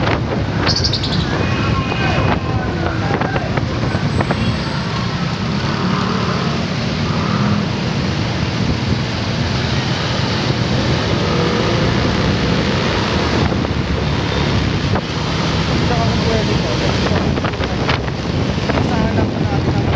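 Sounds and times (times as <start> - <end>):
wind on microphone: 0.0 - 19.9.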